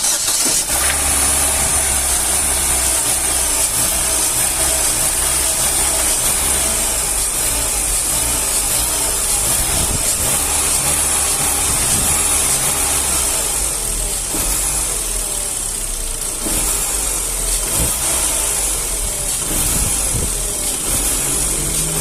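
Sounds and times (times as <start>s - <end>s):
car engine revving and idling: 0.0s - 22.0s.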